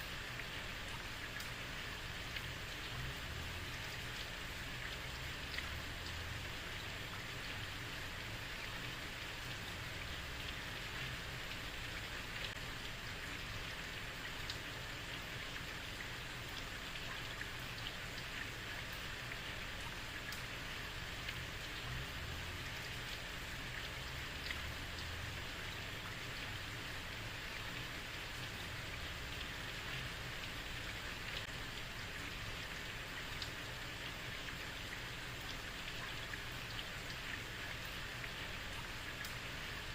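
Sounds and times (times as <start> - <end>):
heavy rain on street: 0.0 - 39.9.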